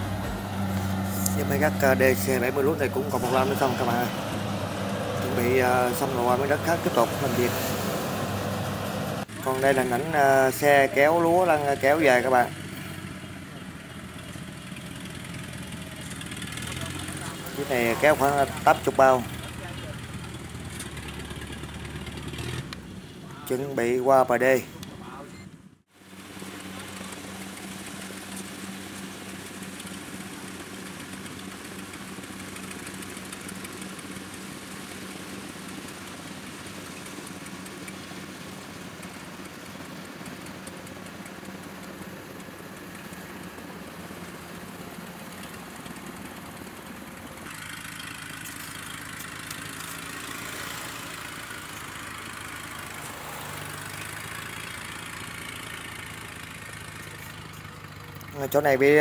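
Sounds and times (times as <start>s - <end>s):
tracked vehicle engine running: 0.0s - 59.0s.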